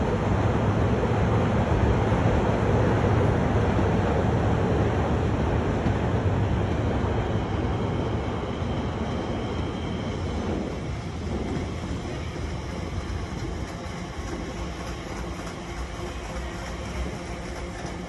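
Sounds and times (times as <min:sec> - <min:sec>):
electric train running past: 0:00.0 - 0:18.0.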